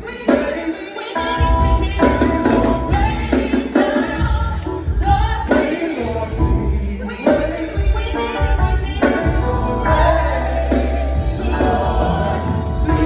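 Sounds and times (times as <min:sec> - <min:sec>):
band with heavy bass: 0:00.0 - 0:13.0
choir singing: 0:00.0 - 0:13.0.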